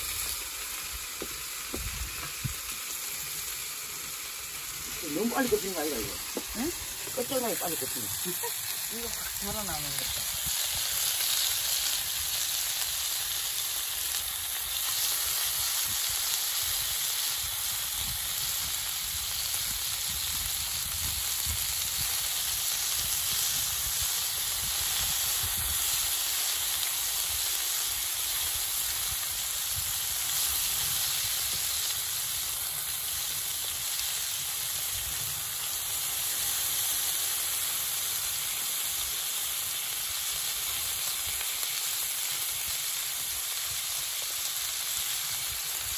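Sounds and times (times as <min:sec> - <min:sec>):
meat sizzling on a griddle: 0:00.0 - 0:45.9.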